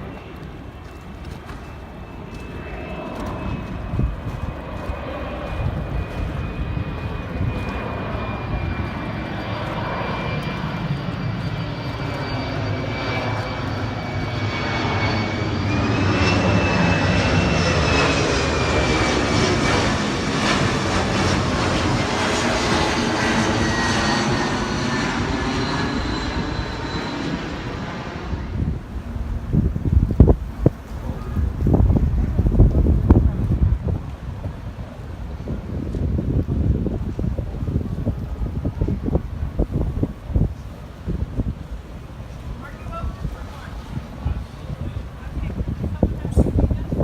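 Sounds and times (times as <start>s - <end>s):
aircraft engine passing overhead: 0.0s - 47.0s.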